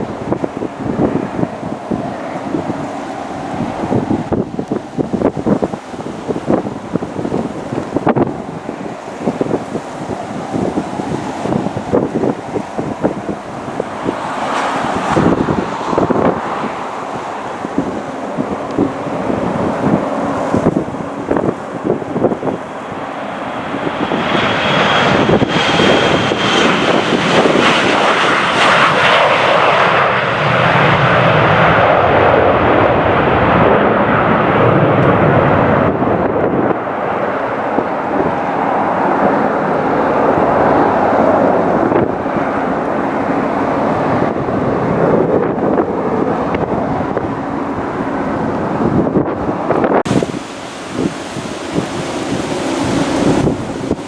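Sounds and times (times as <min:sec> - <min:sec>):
airliner engines roaring: 0:00.0 - 0:54.0.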